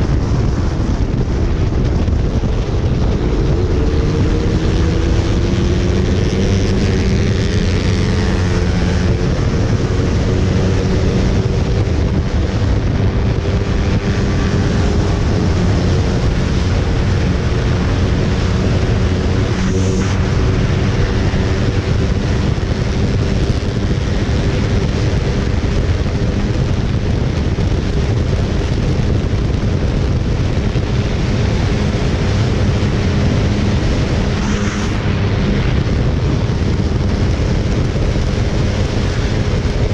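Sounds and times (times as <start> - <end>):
motorcycle engine at high revs: 0.0 - 39.9
wind rushing over microphone: 0.0 - 39.9.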